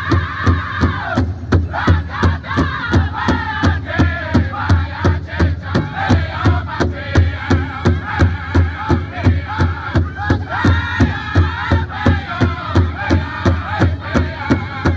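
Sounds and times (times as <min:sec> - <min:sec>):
group singing high voices: 0:00.0 - 0:14.9
large drum steady beat: 0:00.0 - 0:14.9.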